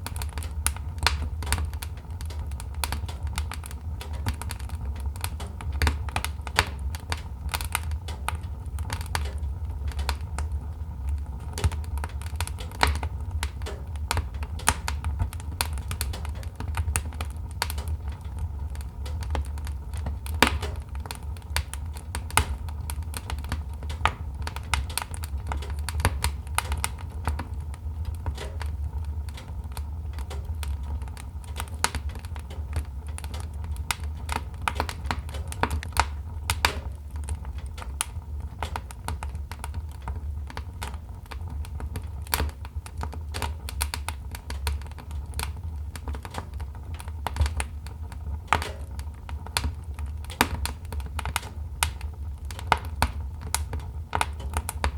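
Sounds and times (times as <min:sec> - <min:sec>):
low rumble of burning logs: 0:00.0 - 0:54.9
wood fire crackling: 0:00.0 - 0:54.9.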